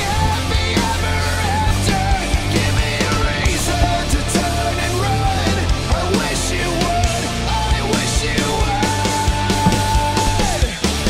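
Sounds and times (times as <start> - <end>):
rock music with full band: 0.0 - 11.0.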